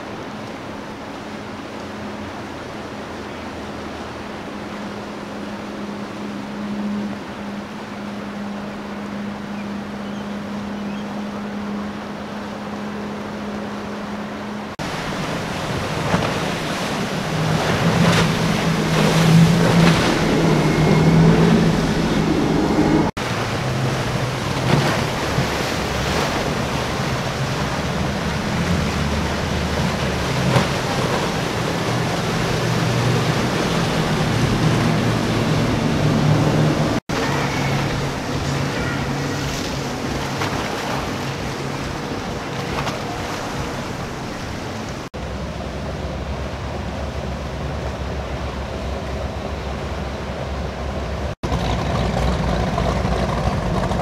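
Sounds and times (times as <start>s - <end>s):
hull spray and breaking waves: 0.0s - 54.0s
outboard engine drone: 0.0s - 54.0s.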